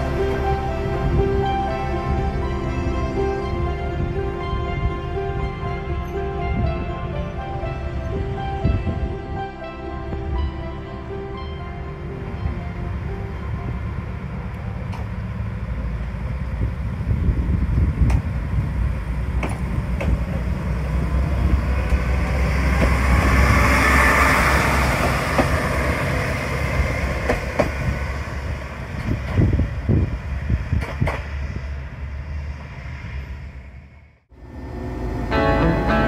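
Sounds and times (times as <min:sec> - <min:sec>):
railcar engine rumble: 0:00.0 - 0:36.0.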